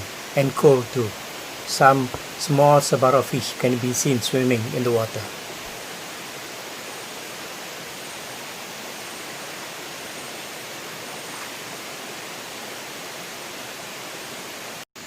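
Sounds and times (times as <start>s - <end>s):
mountain stream rushing: 0.0s - 14.9s.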